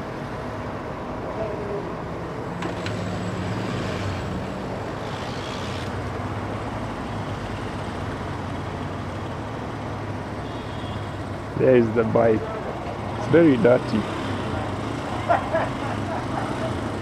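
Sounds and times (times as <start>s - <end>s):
traffic engine hum: 0.0s - 17.0s.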